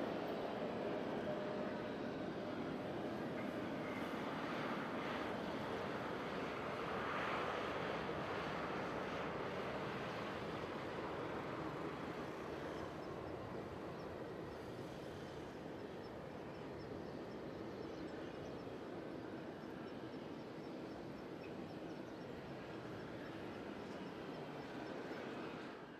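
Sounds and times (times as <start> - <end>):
jet engines rumbling: 0.0 - 25.9.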